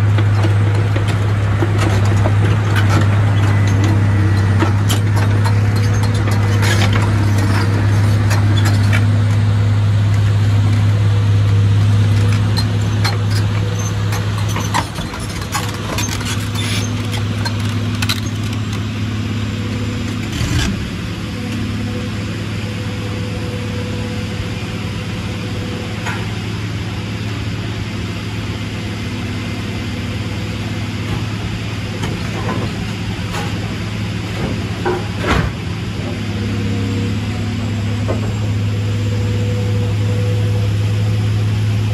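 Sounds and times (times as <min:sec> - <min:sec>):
excavator diesel engine drone: 0:00.0 - 0:41.9.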